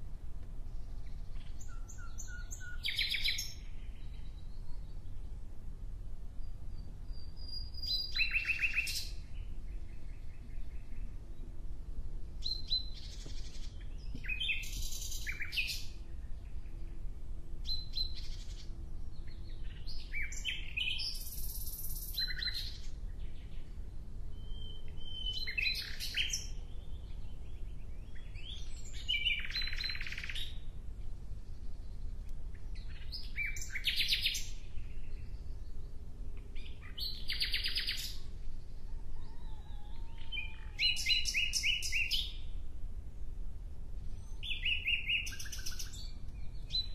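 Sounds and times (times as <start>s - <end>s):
songbird singing trills: 0.6s - 5.4s, 6.4s - 11.6s, 12.4s - 42.7s, 44.0s - 46.9s.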